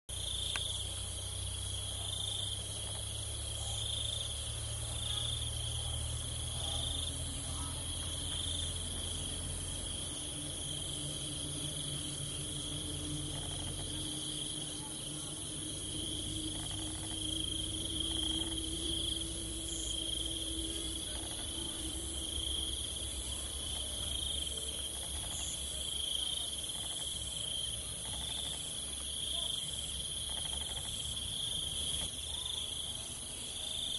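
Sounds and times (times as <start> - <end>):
low background rumble: 0.1 - 28.0
high insect trill: 0.1 - 33.9
lower pulsing insect trill: 0.1 - 33.9.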